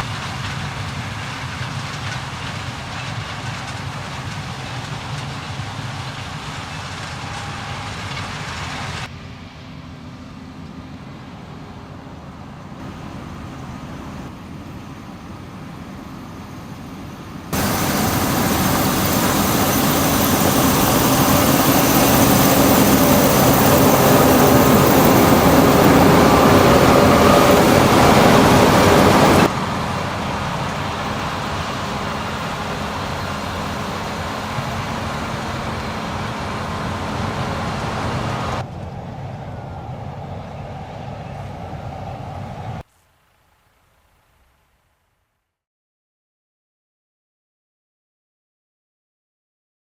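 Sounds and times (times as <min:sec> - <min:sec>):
harvest machinery drone: 0:00.0 - 0:42.8.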